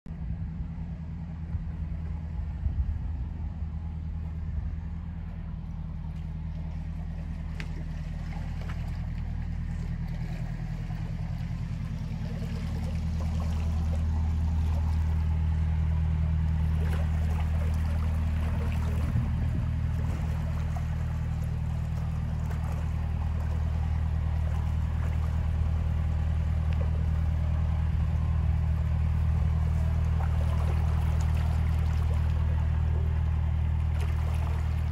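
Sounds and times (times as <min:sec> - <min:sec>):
diesel boat engine running: 0:00.1 - 0:34.9.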